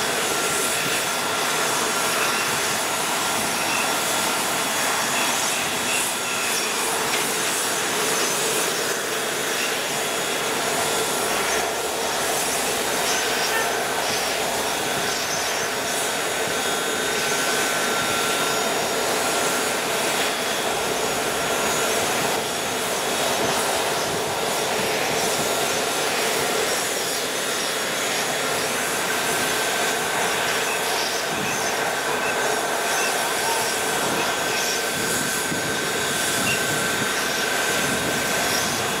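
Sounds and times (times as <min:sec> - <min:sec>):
faint steady whines: 0:00.0 - 0:39.0
parked airliner rushing hiss: 0:00.0 - 0:39.0.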